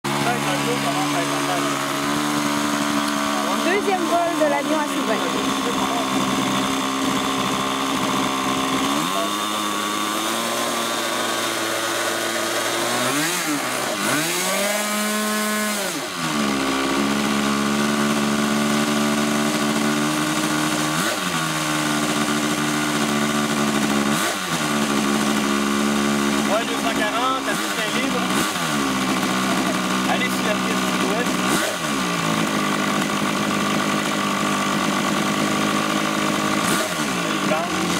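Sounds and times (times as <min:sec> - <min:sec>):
model airplane engine running: 0:00.1 - 0:37.9.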